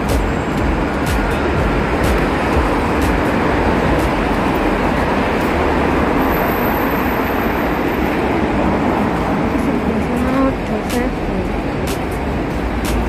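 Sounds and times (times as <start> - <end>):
road traffic rumbling: 0.0 - 13.0.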